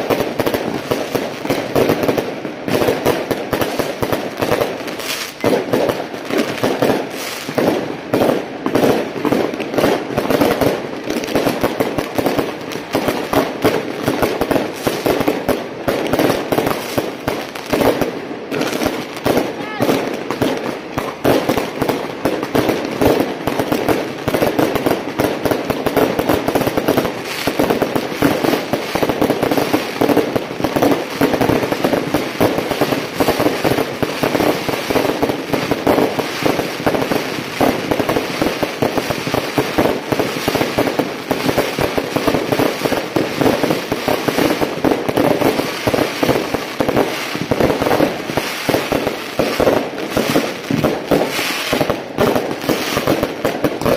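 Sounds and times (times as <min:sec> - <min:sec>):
firecracker strings crackling: 0:00.0 - 0:53.9.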